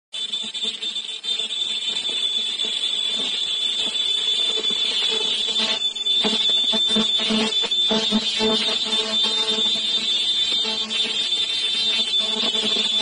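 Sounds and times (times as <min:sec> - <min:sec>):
machine high-pitched whine: 0:00.2 - 0:13.0.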